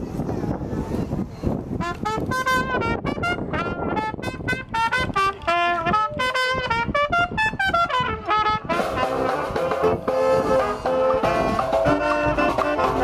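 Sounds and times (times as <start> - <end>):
brass band playing a tune: 1.8 - 13.0.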